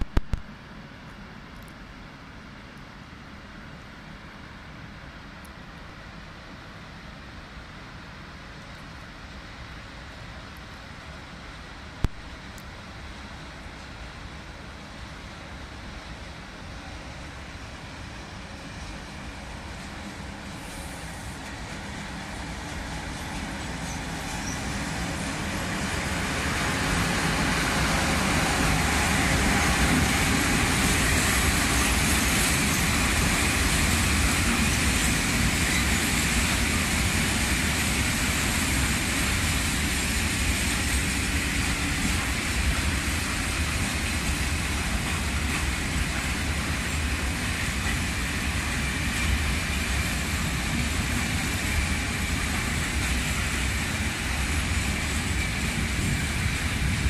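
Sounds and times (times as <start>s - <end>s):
freight train wheels rumbling on rails: 3.4s - 57.0s.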